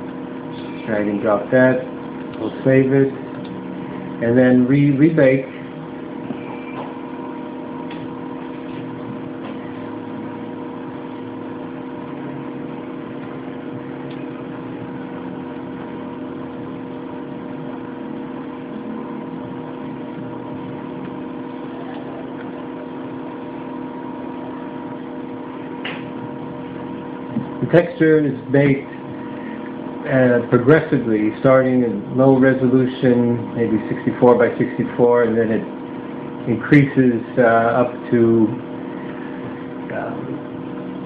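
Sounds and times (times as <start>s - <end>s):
computer fan whirring: 0.0s - 41.0s.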